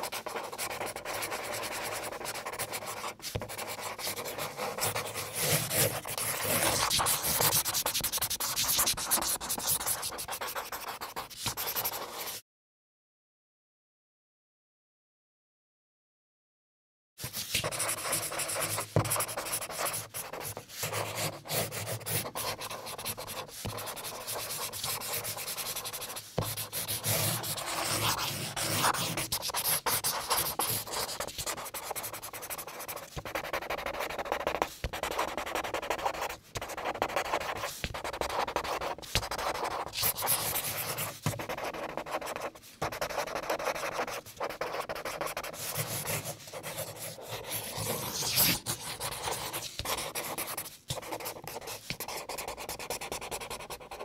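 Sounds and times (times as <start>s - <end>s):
pen scratching across paper: 0.0s - 12.4s, 17.2s - 54.0s.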